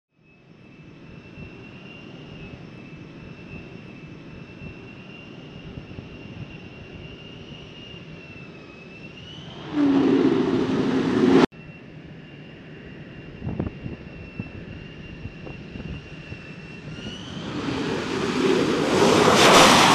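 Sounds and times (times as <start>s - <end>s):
high jet engine whine: 0.2s - 19.9s
distant jet engine rumble: 0.6s - 19.9s.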